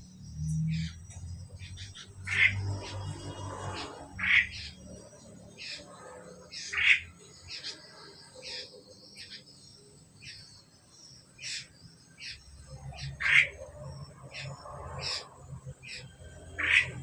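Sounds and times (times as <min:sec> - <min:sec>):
starlings calling: 0:00.0 - 0:17.0.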